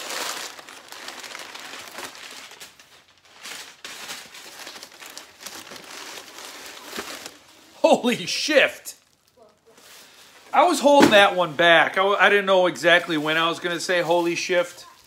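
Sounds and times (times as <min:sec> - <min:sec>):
packing paper rustling: 0:00.0 - 0:11.4, 0:12.9 - 0:15.0.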